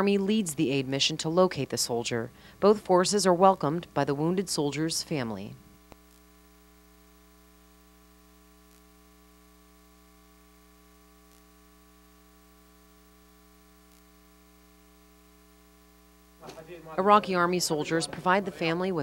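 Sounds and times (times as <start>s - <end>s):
electrical hum with faint hiss: 0.0s - 19.0s.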